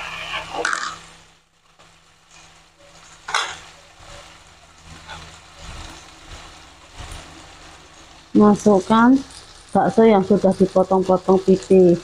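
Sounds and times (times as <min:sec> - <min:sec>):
stir-fry sizzling in a wok: 0:00.0 - 0:12.0.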